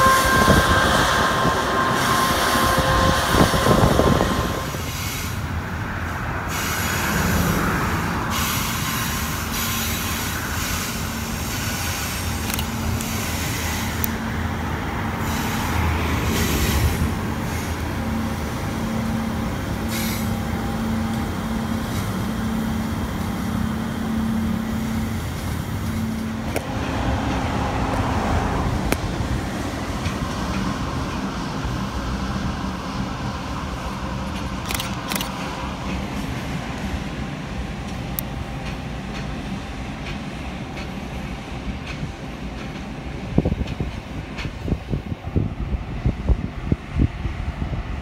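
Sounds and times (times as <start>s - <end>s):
train wagon wheels rumbling: 0.0s - 48.0s.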